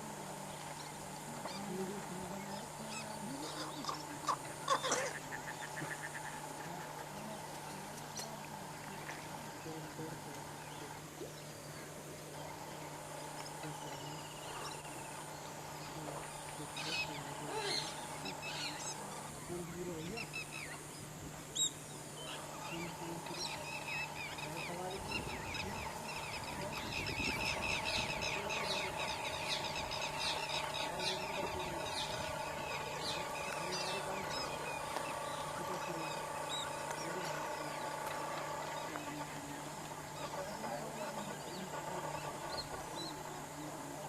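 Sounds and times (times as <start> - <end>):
birds chirping and calling: 0.0 - 44.0.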